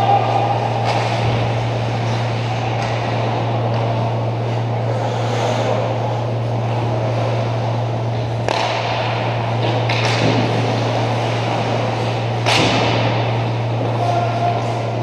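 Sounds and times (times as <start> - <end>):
skates on ice: 0.0 - 15.0
steady low hum: 0.0 - 15.0.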